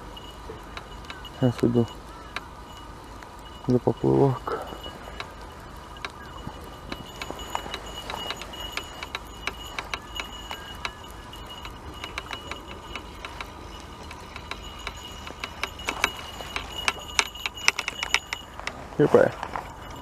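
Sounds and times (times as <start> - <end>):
fishing reel clicking: 0.0 - 18.8
thin high reel whine: 0.0 - 20.0.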